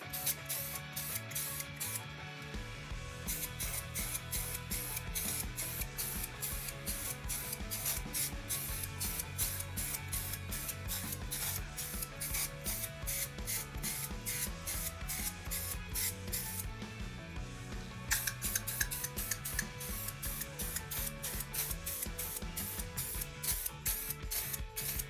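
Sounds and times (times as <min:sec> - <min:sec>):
aerosol can spraying: 0:00.0 - 0:02.1, 0:03.2 - 0:16.8, 0:18.1 - 0:25.0
music with steady beat: 0:00.0 - 0:25.0.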